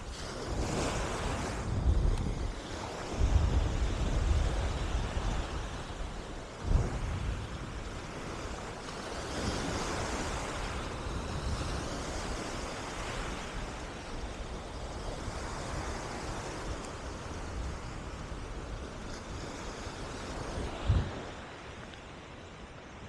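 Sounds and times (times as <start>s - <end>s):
surf washing up a beach: 0.0s - 23.0s
wind rumbling on microphone: 0.0s - 23.0s.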